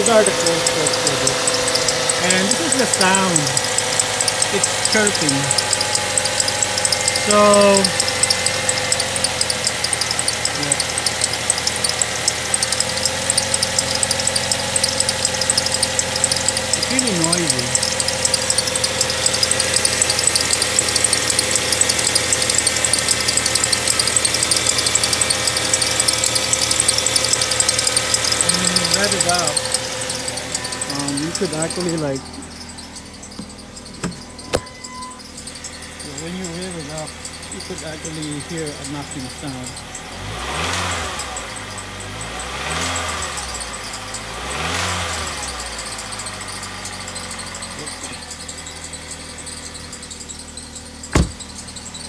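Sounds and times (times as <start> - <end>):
car engine idling: 0.0 - 52.0
rapid belt chirping: 0.0 - 52.0.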